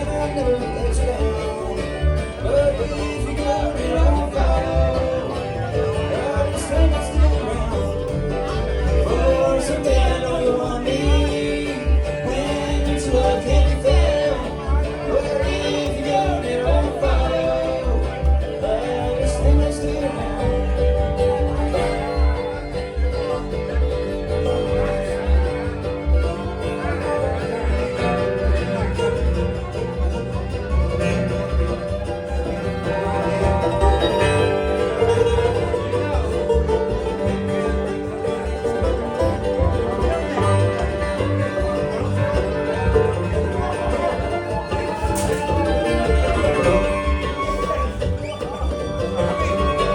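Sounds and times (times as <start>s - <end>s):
banjo: 0.0s - 49.9s
fiddle: 0.0s - 49.9s
guitar: 0.0s - 49.9s
mandolin: 0.0s - 49.9s
upright bass pulse: 0.0s - 49.9s.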